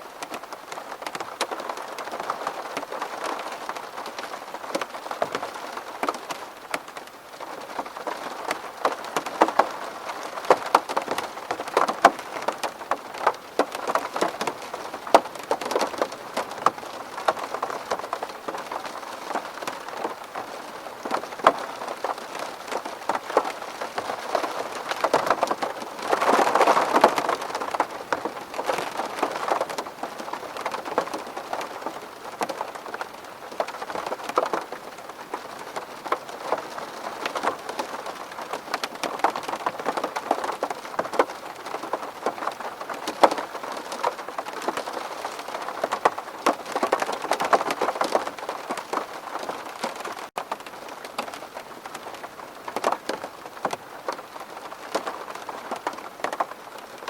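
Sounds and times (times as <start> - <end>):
rain on window glass: 0.0 - 57.0.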